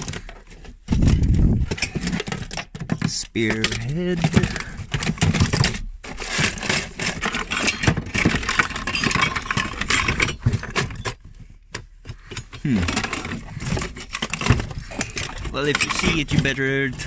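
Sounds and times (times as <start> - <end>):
hard objects clattering in toolbox: 0.0 - 17.0.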